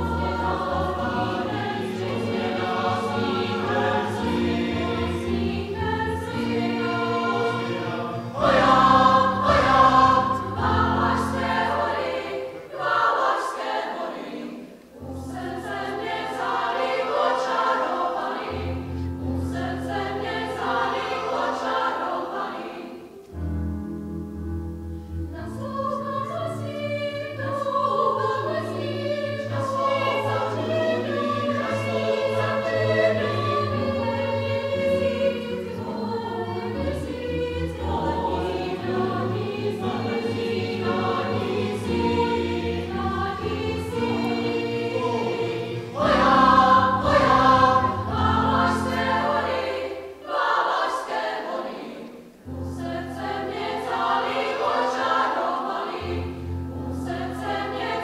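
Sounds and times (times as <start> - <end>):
mixed choir singing: 0.0 - 23.4, 25.3 - 58.0.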